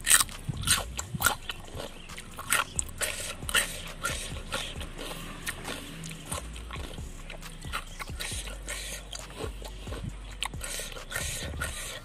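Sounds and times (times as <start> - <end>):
crunchy chewing of raw vegetables: 0.0 - 12.0
steady low hum: 0.0 - 12.0.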